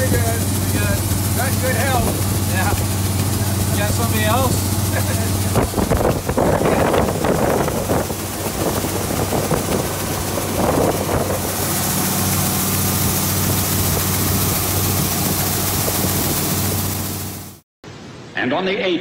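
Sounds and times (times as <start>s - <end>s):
combine engine humming: 0.0s - 17.6s
corn streaming from auger hiss: 0.0s - 17.6s.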